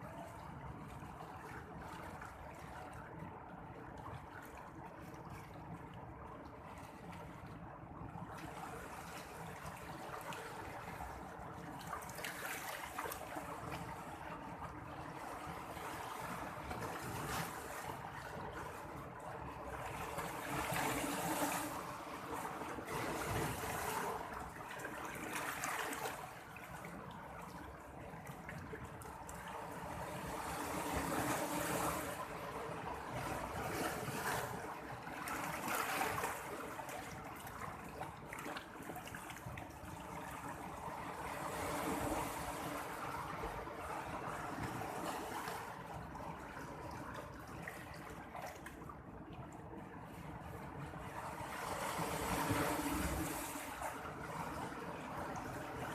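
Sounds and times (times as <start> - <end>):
sea water washing: 0.0 - 55.9
waves washing in: 0.0 - 55.9.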